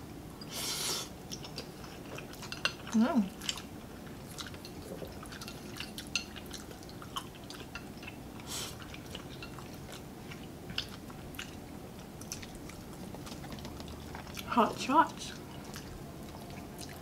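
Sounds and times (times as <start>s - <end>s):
close chewing with mouth clicks: 0.4s - 17.0s.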